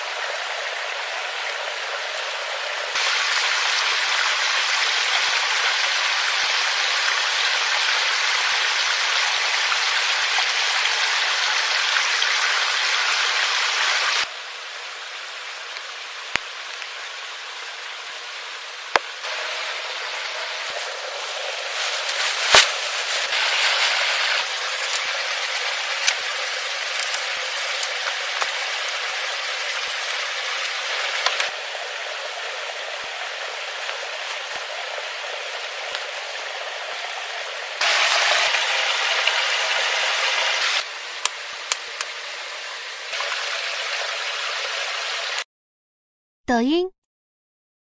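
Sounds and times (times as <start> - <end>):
rain falling in forest: 0.0 - 45.4.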